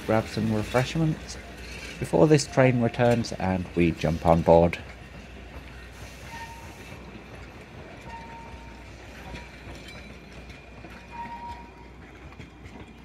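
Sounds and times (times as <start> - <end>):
diesel train rumbling: 0.0 - 13.0
faint train squeals: 0.0 - 13.0.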